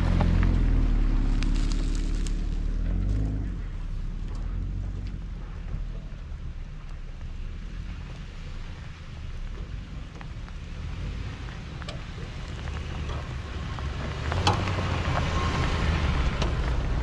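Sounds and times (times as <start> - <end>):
tyres crackling on dirt: 0.0 - 17.0
vehicle engine rumble: 0.0 - 17.0.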